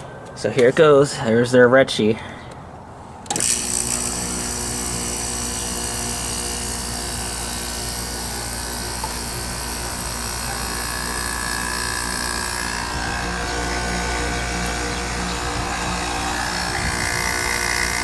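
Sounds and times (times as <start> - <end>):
compressor hum: 3.2 - 18.0
fan blowing air: 3.3 - 18.0.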